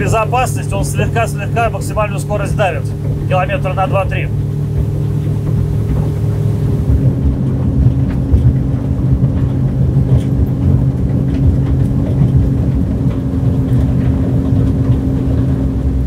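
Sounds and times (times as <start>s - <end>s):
outboard engine at full speed: 0.0s - 16.0s
rushing water rumble: 0.0s - 16.0s.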